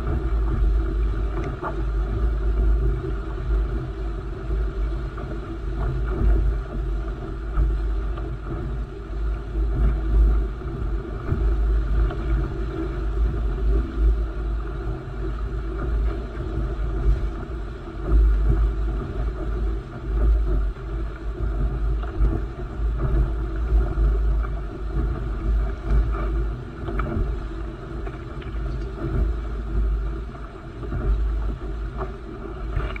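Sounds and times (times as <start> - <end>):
water rushing along hull: 0.0 - 33.0
wind buffeting microphone: 0.0 - 33.0.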